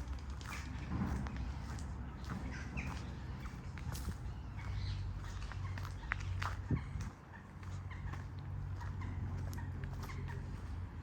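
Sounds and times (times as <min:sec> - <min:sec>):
footsteps on a path: 0:00.0 - 0:11.0.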